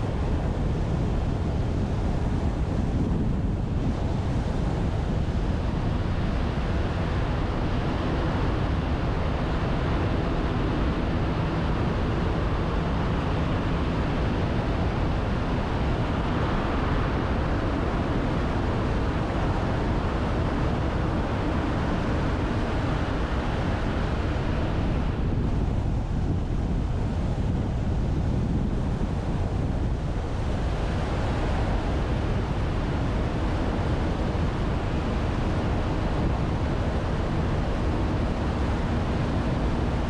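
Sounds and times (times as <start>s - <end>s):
low engine hum: 0.0s - 40.0s
road and wind noise: 0.0s - 40.0s.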